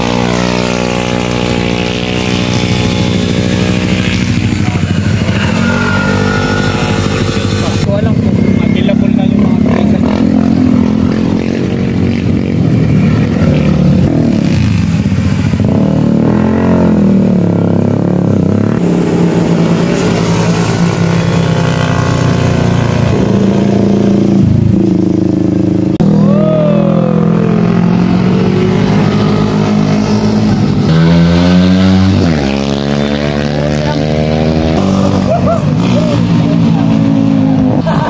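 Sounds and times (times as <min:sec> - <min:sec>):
motorcycles passing: 0:00.0 - 0:38.0.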